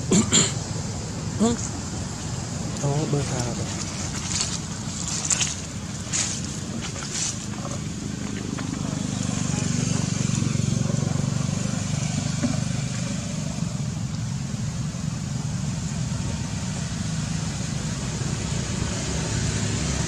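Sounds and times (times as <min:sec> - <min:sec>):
motor vehicle engine rumbling: 0:00.0 - 0:20.0.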